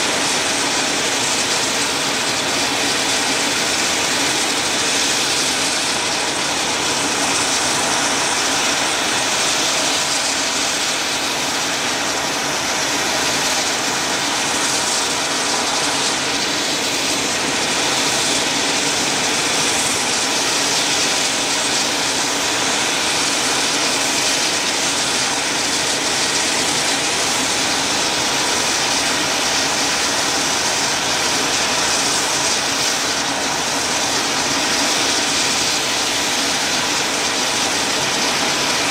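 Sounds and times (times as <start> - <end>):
helicopter engines hissing: 0.0 - 38.9.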